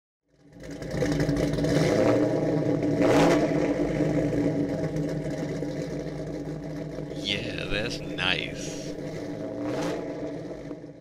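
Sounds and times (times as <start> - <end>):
car engine running: 0.5 - 7.7, 8.6 - 11.0.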